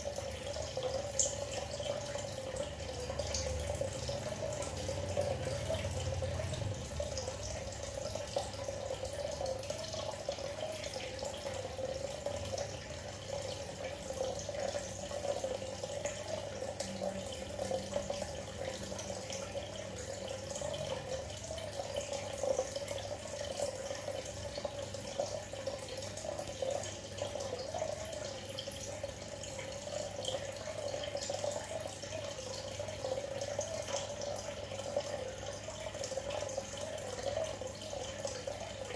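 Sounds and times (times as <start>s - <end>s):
aquarium bubbling: 0.0s - 38.9s
water trickling: 0.0s - 38.9s.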